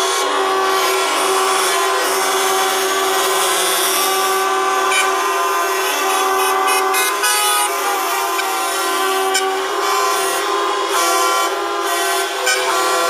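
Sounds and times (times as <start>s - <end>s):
truck horns sounding together: 0.0s - 13.0s.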